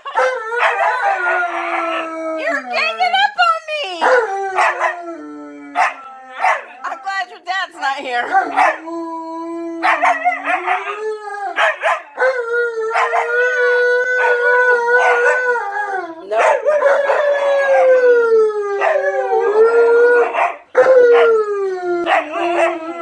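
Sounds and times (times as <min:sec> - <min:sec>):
dog howling: 0:00.0 - 0:03.2, 0:04.0 - 0:07.0, 0:08.2 - 0:23.0.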